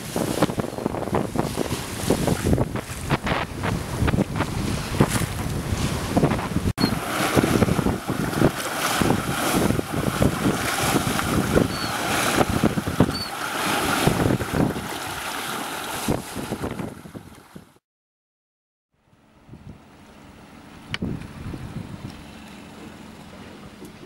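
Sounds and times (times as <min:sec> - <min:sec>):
water rushing along boat hull: 0:00.0 - 0:17.8, 0:19.7 - 0:24.0
wind buffeting microphone: 0:00.0 - 0:17.8, 0:20.8 - 0:24.0.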